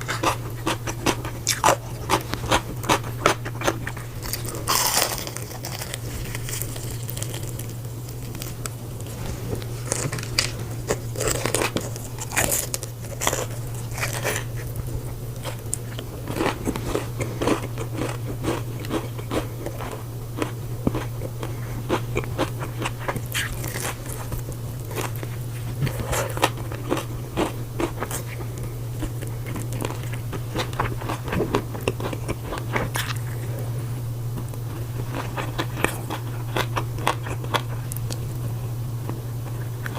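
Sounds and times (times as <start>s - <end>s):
crunching and chewing food: 0.0s - 39.9s
steady low hum: 0.0s - 39.9s.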